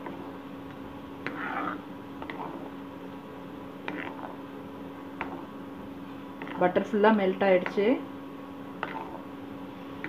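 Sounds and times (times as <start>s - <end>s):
ladle stirring melting butter: 0.0s - 8.0s, 8.6s - 10.0s
steady low hum: 0.0s - 10.0s.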